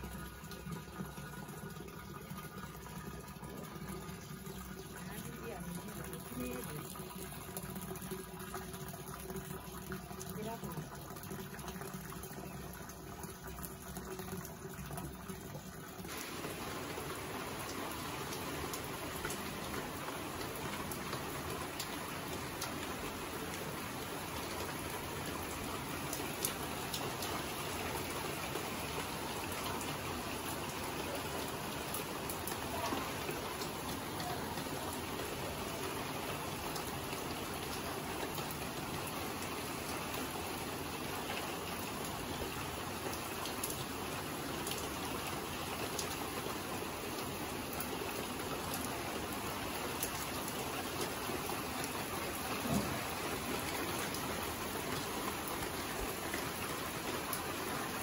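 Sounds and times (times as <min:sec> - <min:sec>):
heavy rain pouring: 0:00.0 - 0:58.0
raindrops ticking close by: 0:00.0 - 0:58.0.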